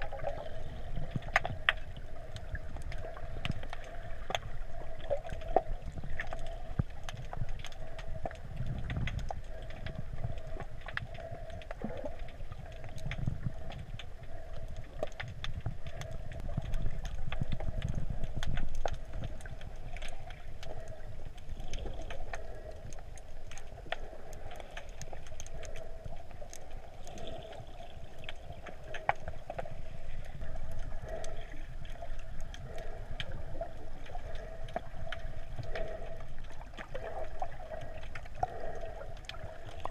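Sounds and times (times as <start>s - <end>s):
sharp underwater clicks and crackles: 0.0s - 39.9s
underwater rumble of moving sea water: 0.0s - 39.9s.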